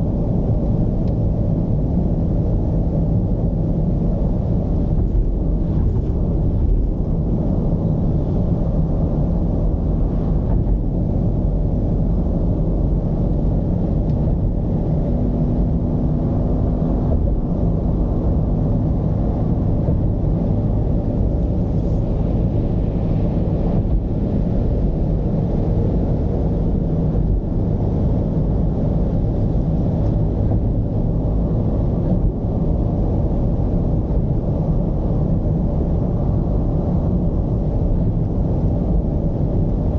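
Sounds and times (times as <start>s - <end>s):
van engine and road noise rumble: 0.0s - 39.9s.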